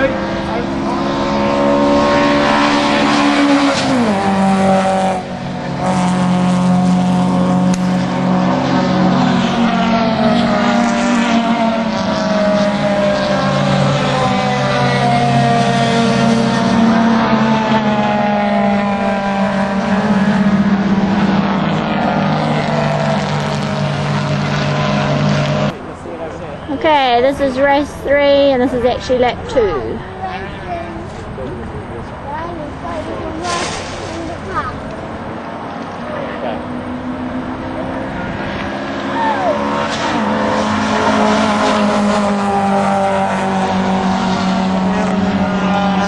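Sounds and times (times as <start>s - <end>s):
race car engines passing: 0.0s - 46.0s.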